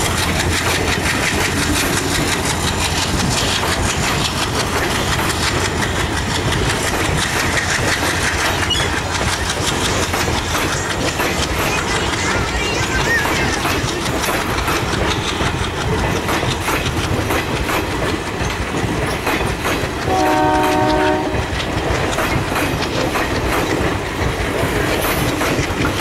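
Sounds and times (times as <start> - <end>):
train rumbling past: 0.0 - 26.0
wheel clatter on rails: 0.0 - 26.0.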